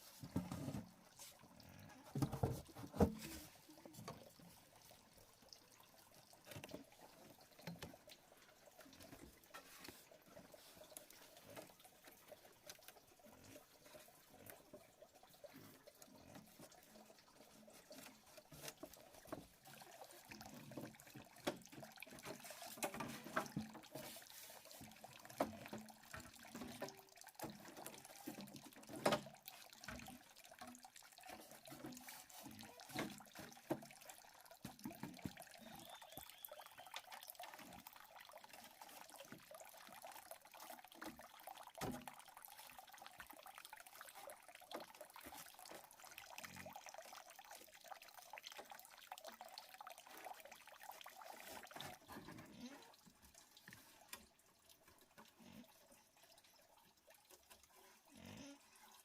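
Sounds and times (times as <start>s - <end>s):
water trickling and dripping: 0.0s - 59.0s.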